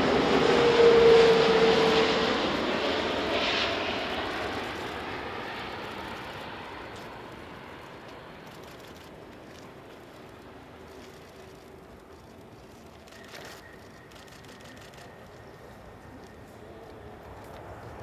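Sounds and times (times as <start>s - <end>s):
jet airliner passing with whine: 0.0s - 18.0s.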